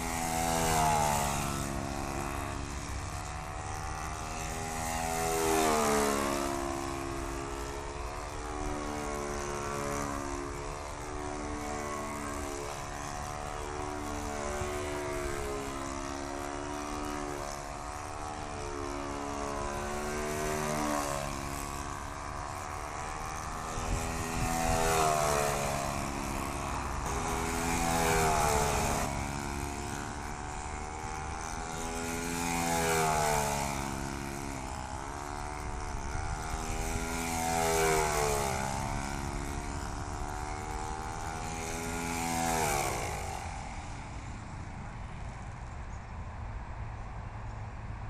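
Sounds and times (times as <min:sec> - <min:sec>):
model plane engine running: 0:00.0 - 0:48.0.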